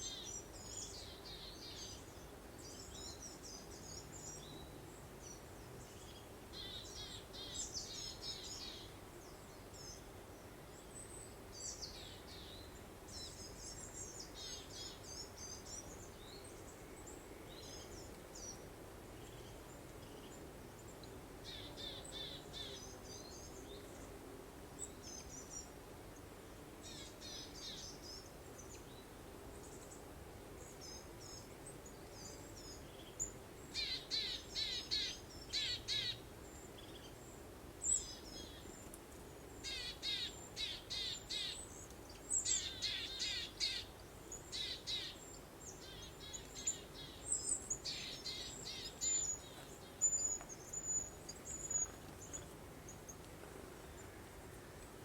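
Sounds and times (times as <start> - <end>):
faint breeze hiss: 0.0 - 55.0
songbirds chirping: 0.0 - 55.0.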